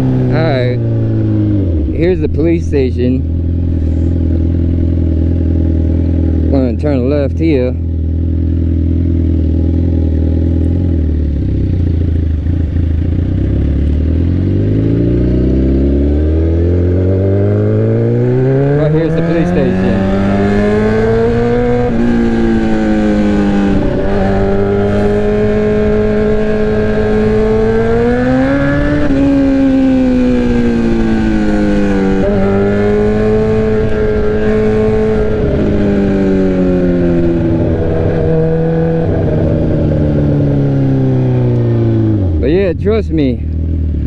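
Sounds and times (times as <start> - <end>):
motorcycle exhaust revving: 0.0 - 42.5.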